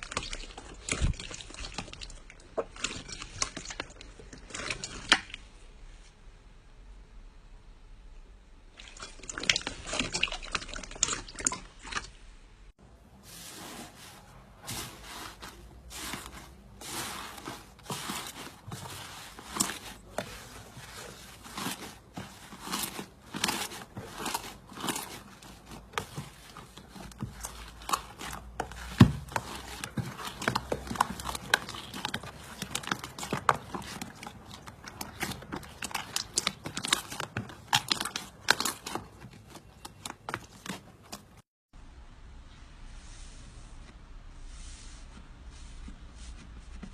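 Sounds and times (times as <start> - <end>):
slime squelching: 0.0 - 5.8, 8.6 - 41.4.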